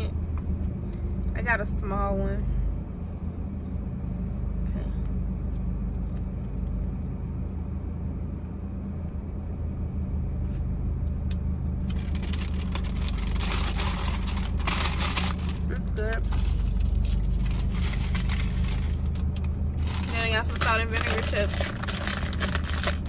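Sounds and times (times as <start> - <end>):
car engine idling hum: 0.0 - 23.0.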